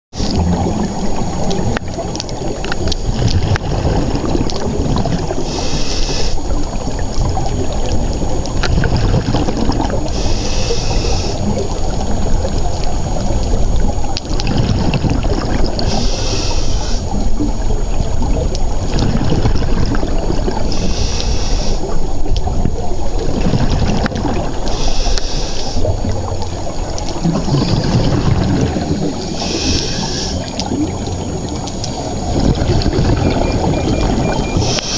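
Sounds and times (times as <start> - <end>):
steady underwater rumble: 0.1 - 34.9
exhaled bubbles rushing: 0.2 - 34.9.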